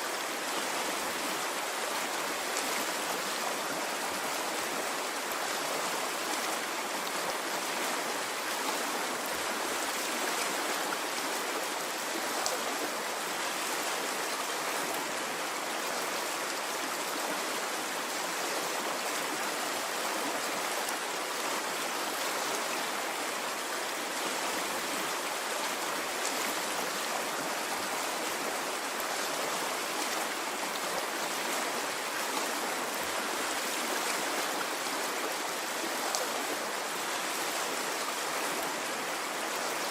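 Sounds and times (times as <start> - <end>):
stream of water rushing: 0.0 - 39.9.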